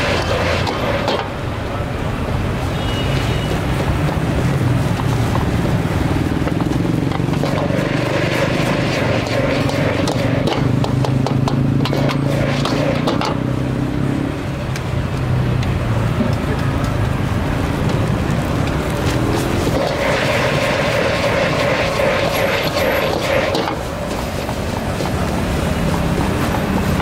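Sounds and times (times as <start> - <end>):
scattered clicks and knocks: 0.0 - 1.4, 3.2 - 13.5, 14.7 - 27.0
vehicle engines running: 0.0 - 27.0.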